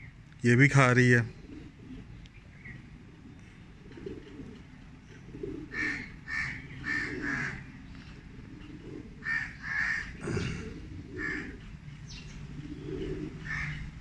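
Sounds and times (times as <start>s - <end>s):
pigeons cooing: 1.0s - 14.0s.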